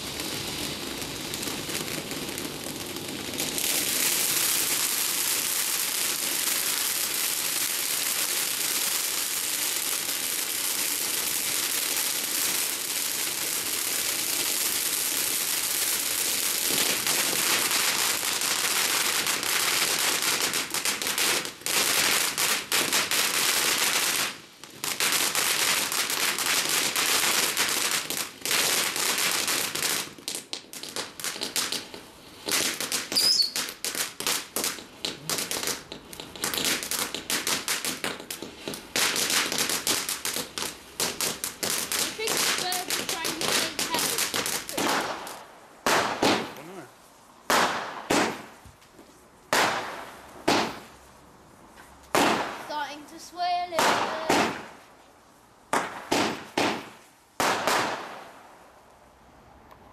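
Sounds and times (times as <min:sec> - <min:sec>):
fireworks crackling and popping: 0:00.0 - 0:59.9.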